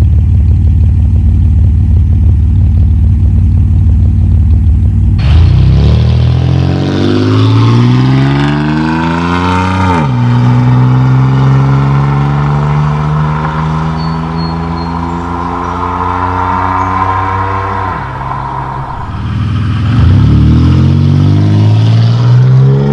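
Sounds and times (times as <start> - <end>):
car exhaust accelerating: 0.0 - 22.9.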